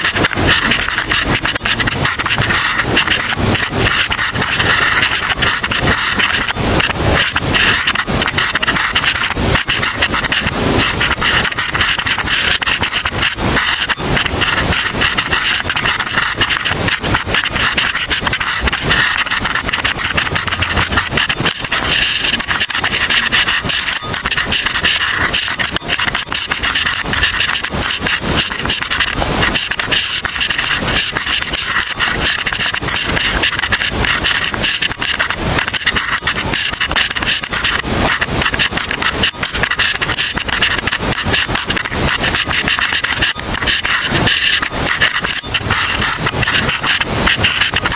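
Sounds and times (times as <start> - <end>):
pen scratching on paper: 0.0 - 47.9.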